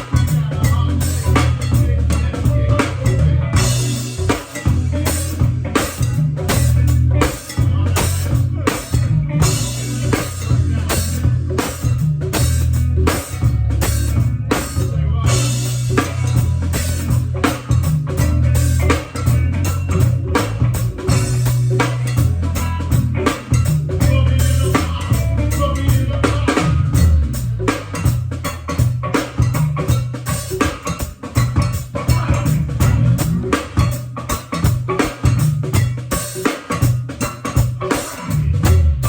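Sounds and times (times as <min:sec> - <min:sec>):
drum kit beat: 0:00.0 - 0:39.0
guitar: 0:00.0 - 0:39.0
heavy bass line: 0:00.0 - 0:39.0
live band playing: 0:00.0 - 0:39.0.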